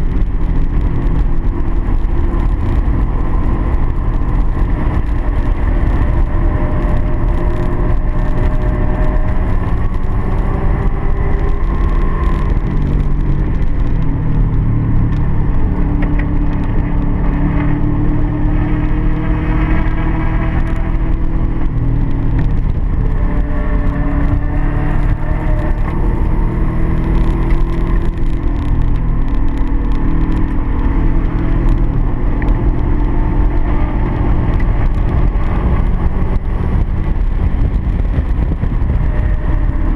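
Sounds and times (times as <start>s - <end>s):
car engine accelerating and slowing: 0.0s - 39.9s.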